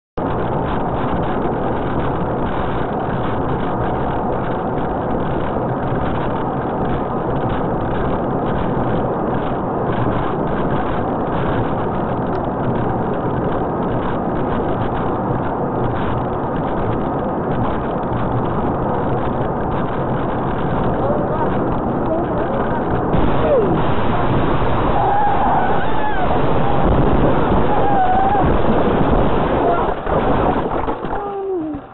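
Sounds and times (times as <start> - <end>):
car road noise inside cabin: 0.2 - 31.9.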